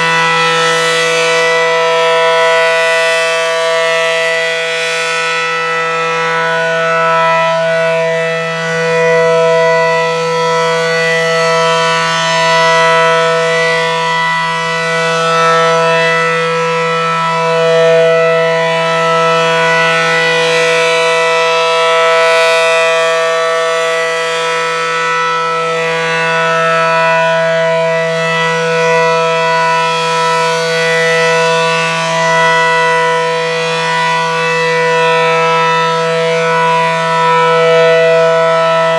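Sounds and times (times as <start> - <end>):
low-pitched warning siren: 0.0 - 38.9.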